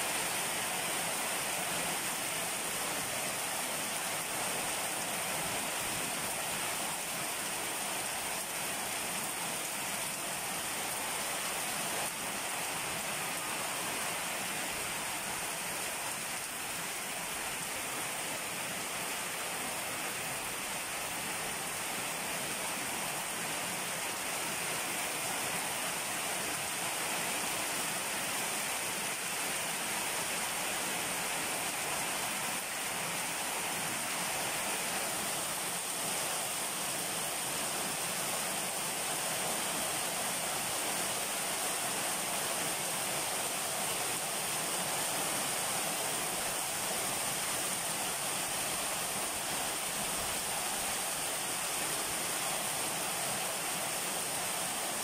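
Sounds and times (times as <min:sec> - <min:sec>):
heavy rain on pavement and foliage: 0:00.0 - 0:55.0.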